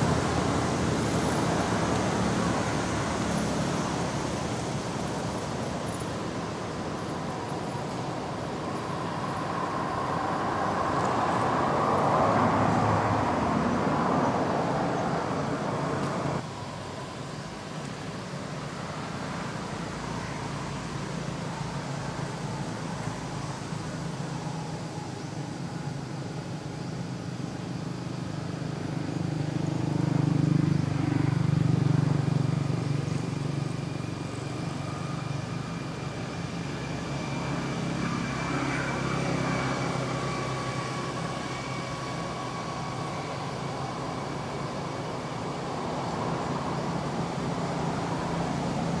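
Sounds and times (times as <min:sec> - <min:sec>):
road traffic engine drone: 0:00.0 - 0:49.0.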